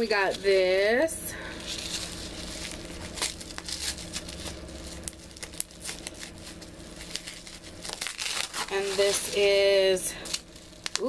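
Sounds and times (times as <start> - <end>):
tissue paper crinkling and tearing: 0.0 - 11.0.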